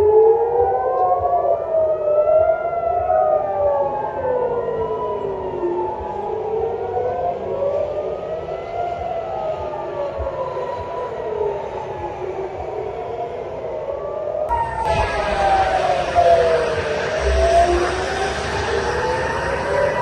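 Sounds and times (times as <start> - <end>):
air-raid sirens wailing: 0.0 - 20.0.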